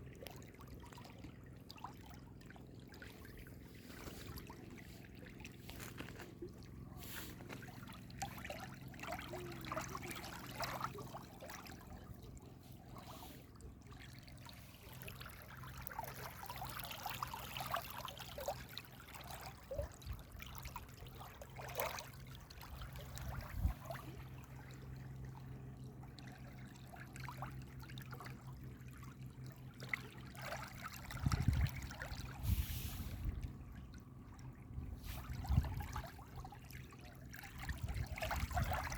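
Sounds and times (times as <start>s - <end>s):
water trickling in a stream: 0.0s - 38.9s.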